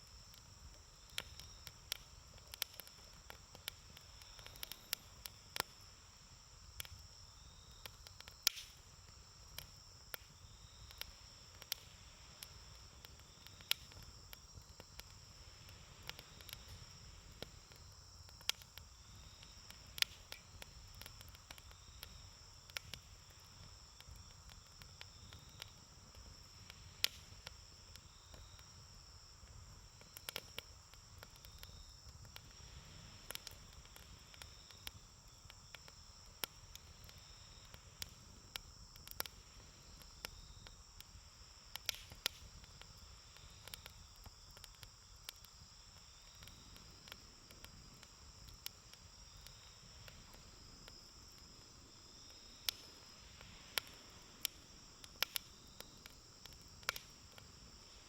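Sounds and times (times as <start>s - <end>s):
campfire crackling: 0.0s - 58.0s
insects chirring: 0.0s - 58.0s.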